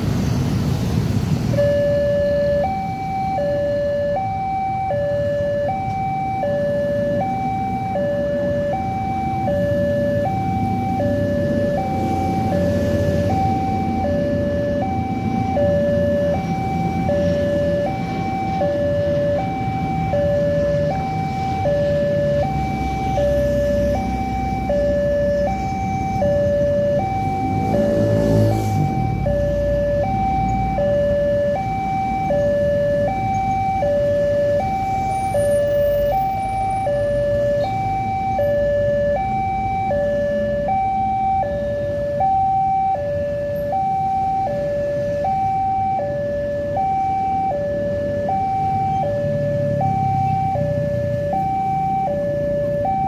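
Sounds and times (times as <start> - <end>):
motorbike and road traffic rumble: 0.0 - 53.0
two-tone crossing warning alarm: 1.4 - 53.0.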